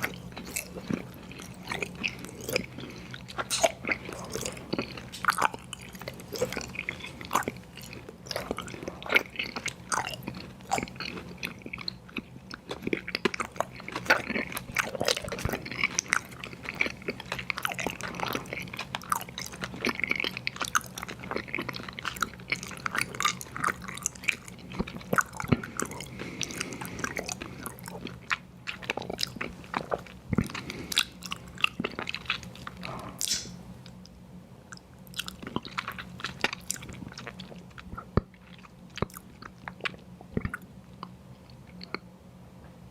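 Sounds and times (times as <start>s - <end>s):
close-miked chewing: 0.0s - 34.1s, 34.7s - 42.1s
faint steady hum: 0.0s - 42.9s.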